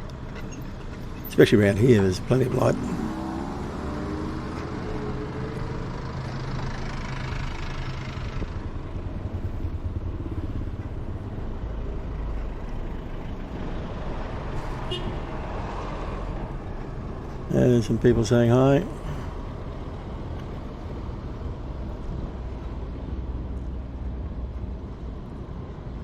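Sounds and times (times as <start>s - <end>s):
engine hum: 0.0s - 26.0s
street traffic: 0.0s - 26.0s.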